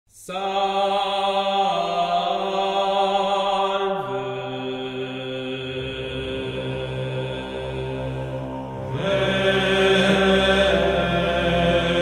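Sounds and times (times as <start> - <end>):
slow chant-like music: 0.1 - 12.0.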